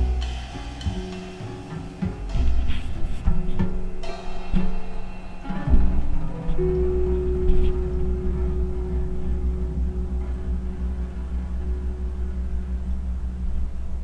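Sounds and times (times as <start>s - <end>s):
deep bass tone: 0.0s - 14.0s
held guitar note: 0.0s - 14.0s.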